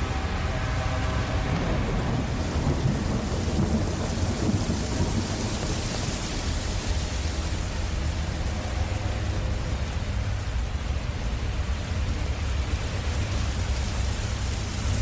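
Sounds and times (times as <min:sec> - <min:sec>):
low rumble of thunder: 0:00.0 - 0:15.0
rain falling: 0:00.0 - 0:15.0.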